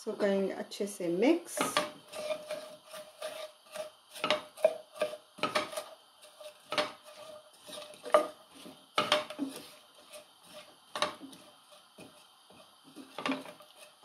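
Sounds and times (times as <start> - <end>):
wooden spatula knocking frying pan: 1.6 - 13.9.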